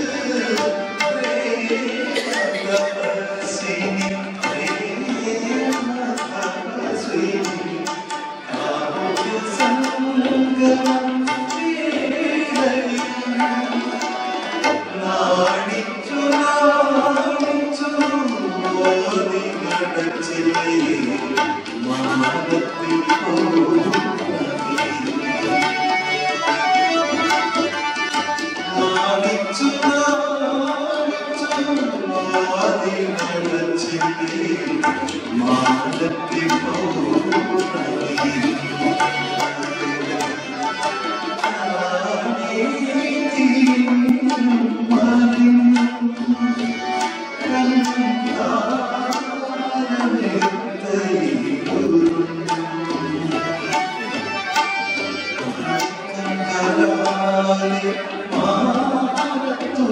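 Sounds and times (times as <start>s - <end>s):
man singing into microphone: 0.0s - 25.9s, 28.6s - 54.3s, 55.2s - 59.9s
harmonium: 0.0s - 59.9s
tabla strokes: 0.0s - 59.9s.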